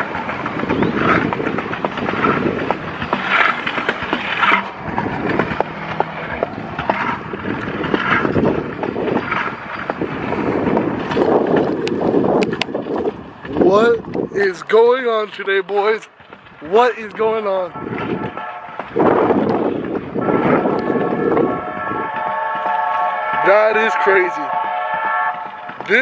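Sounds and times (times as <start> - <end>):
hard wheels rolling on concrete: 0.0 - 26.0.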